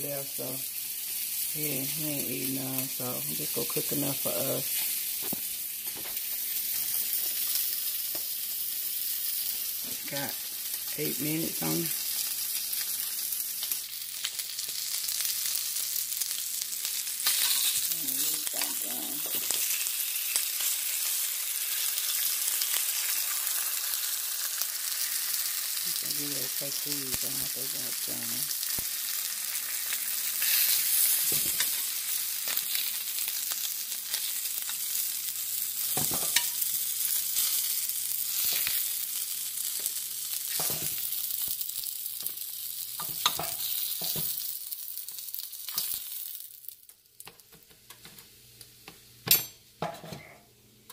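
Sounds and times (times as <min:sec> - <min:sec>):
sausages sizzling in oil: 0:00.0 - 0:50.9.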